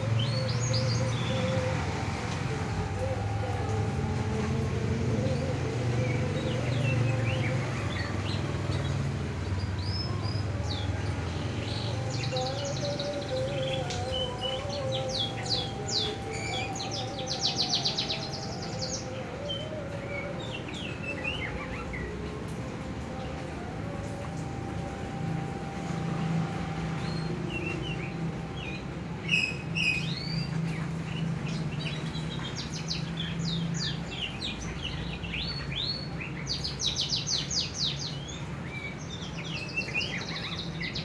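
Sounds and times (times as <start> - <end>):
songbirds chirping and whistling: 0.0 - 41.0.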